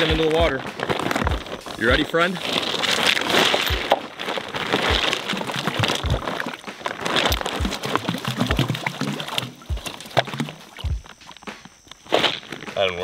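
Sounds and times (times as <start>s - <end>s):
plastic sacks rustling: 0.0s - 11.2s
dull thumps of rocks shifting: 0.0s - 13.0s.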